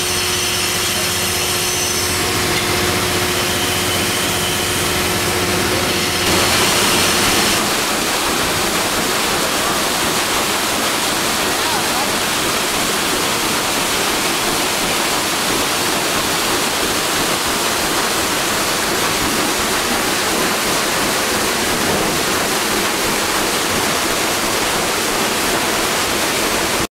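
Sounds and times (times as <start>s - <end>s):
paddle wheel splashing water: 0.0s - 26.9s.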